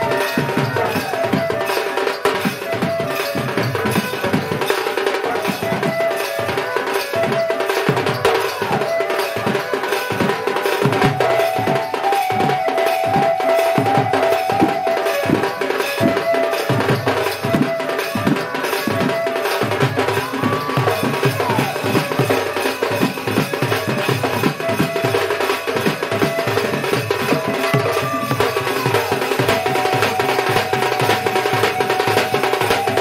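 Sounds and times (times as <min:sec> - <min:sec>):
drum beaten with a stick: 0:00.0 - 0:33.0.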